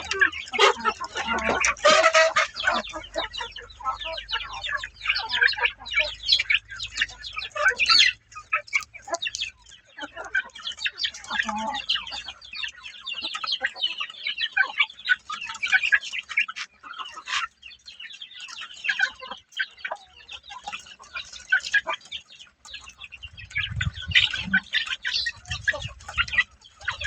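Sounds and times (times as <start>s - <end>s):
young cockerels cheeping: 0.0s - 27.0s.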